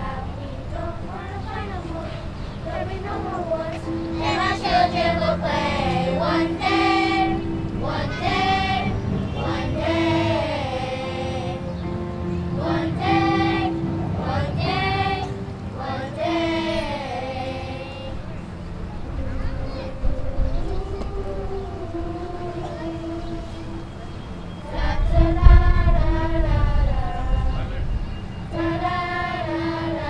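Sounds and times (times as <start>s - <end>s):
children's choir singing: 0.0s - 30.0s
electronic keyboard notes: 0.0s - 30.0s.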